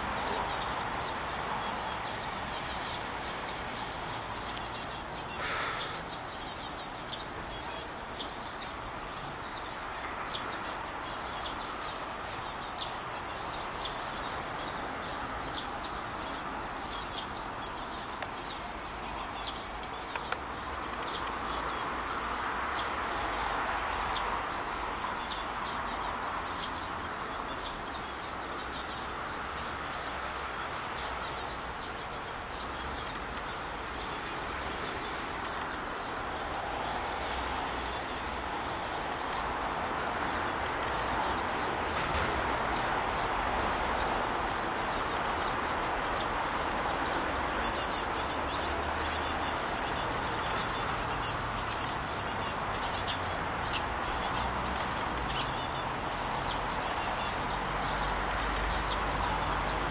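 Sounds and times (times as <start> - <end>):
fledglings chirping: 0.0 - 59.9.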